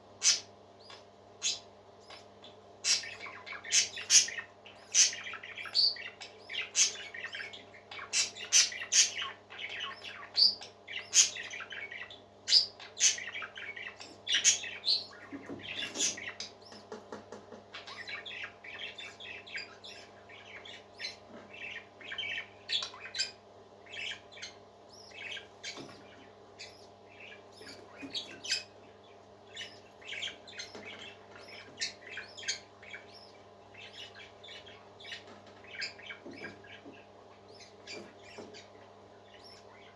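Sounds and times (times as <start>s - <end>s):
faint steady hum: 0.0s - 39.9s
parakeets chattering: 0.0s - 39.9s.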